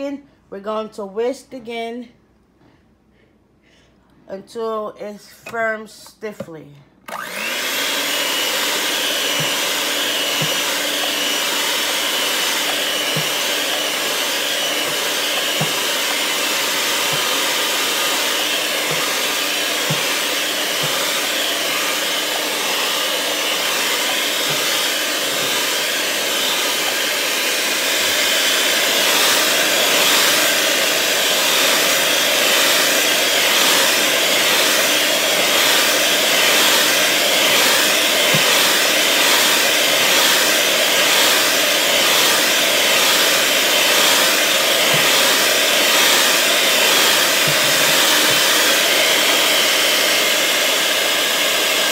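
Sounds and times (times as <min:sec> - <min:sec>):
electric mixer whining: 0:07.1 - 0:51.9.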